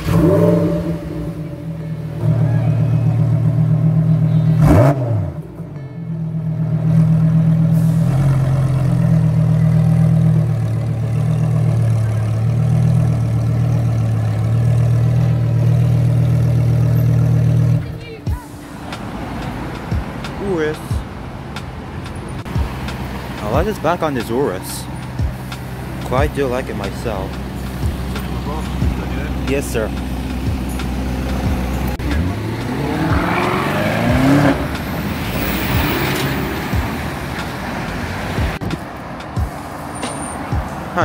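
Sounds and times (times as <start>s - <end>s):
sports car engine idling: 0.0s - 21.2s, 22.1s - 36.0s.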